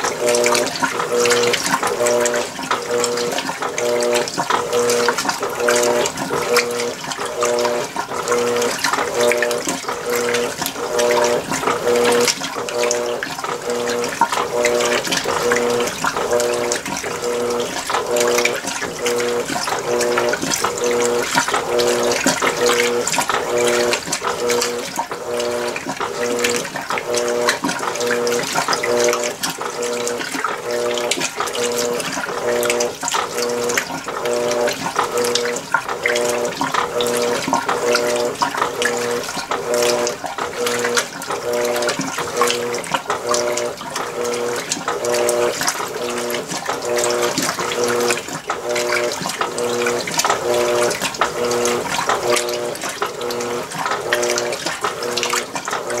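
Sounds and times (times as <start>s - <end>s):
washing machine motor humming: 0.0s - 56.0s
water and clothes sloshing: 0.0s - 56.0s.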